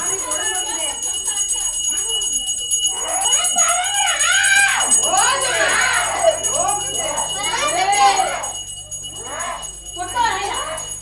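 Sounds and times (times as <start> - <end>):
hand bell ringing rapidly: 0.0 - 11.0
voices singing devotional song: 2.2 - 11.0.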